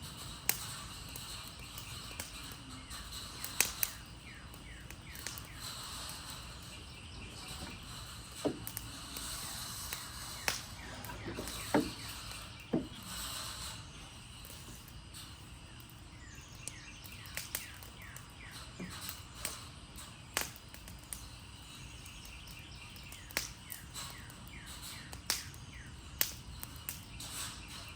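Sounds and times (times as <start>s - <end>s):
fire crackling and popping: 0.0s - 27.9s.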